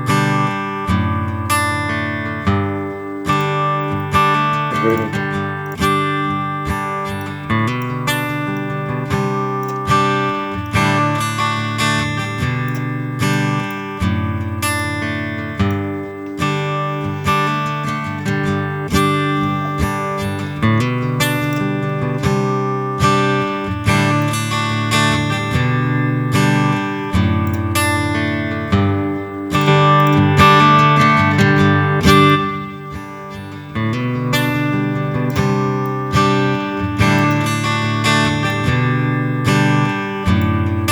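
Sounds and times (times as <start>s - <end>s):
acoustic guitar chords strummed: 0.0s - 40.9s.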